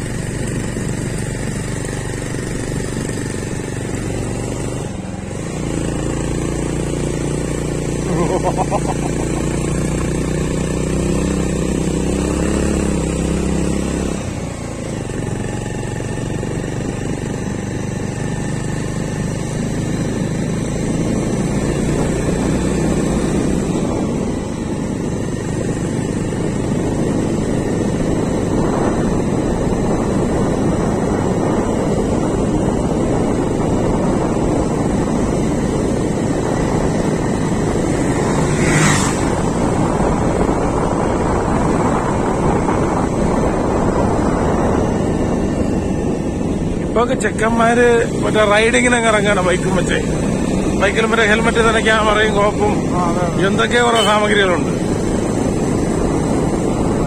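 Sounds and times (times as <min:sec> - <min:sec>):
motorbike engine running: 0:00.0 - 0:57.0
wind rushing over microphone: 0:00.0 - 0:57.0.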